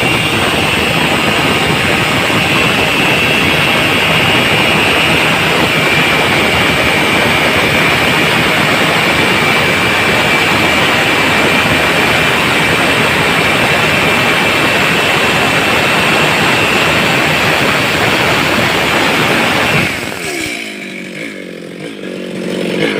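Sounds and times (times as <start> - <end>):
chainsaw engine at full throttle: 0.0 - 22.9.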